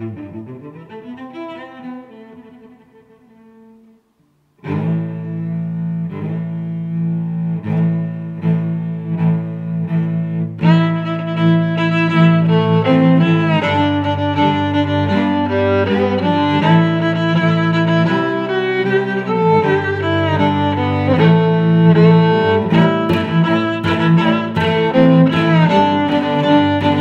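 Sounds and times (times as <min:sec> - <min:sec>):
low bowed strings music: 0:00.0 - 0:27.0.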